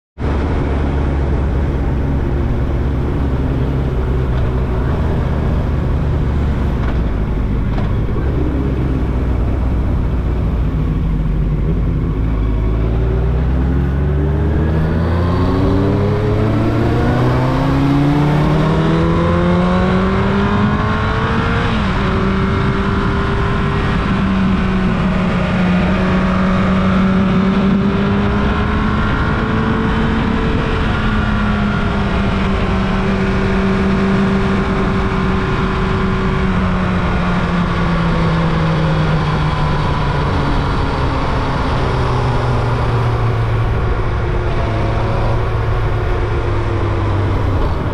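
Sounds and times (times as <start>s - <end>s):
motorcycle engine accelerating: 0.2s - 47.9s.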